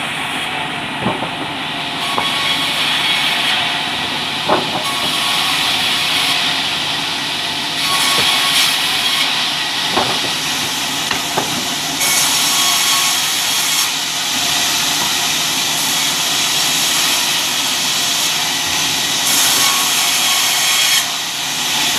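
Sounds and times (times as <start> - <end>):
sawmill saw cutting timber: 0.0 - 21.9.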